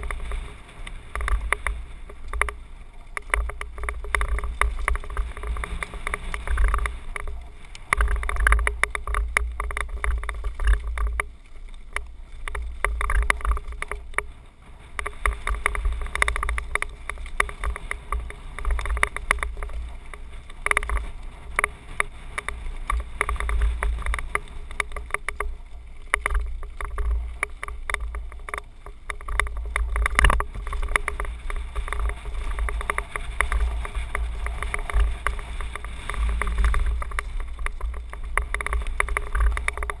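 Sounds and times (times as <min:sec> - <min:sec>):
bike rattling over bumps: 0:00.0 - 0:40.0
wind rumble on microphone: 0:00.0 - 0:40.0.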